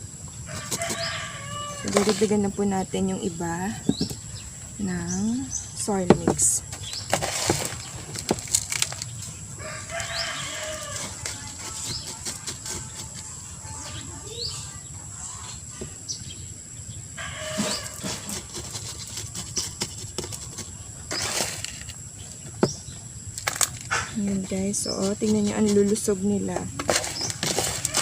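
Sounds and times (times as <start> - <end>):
chickens calling: 0.0 - 28.0
soil rustling and scraping: 0.4 - 14.6, 17.2 - 28.0.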